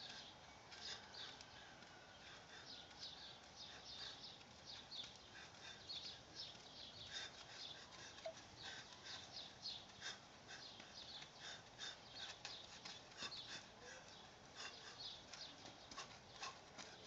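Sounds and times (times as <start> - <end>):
faint birds chirping: 0.0 - 17.0
outdoor background hiss: 0.0 - 17.0.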